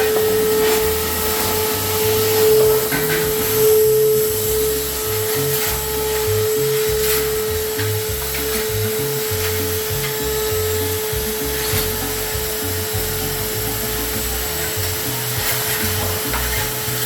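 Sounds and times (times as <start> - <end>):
music with low bass line: 0.0 - 17.0
vacuum cleaner motor whine: 0.0 - 17.0.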